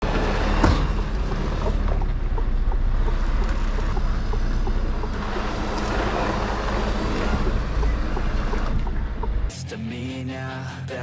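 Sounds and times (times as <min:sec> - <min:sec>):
diesel truck engine drone: 0:00.0 - 0:09.6.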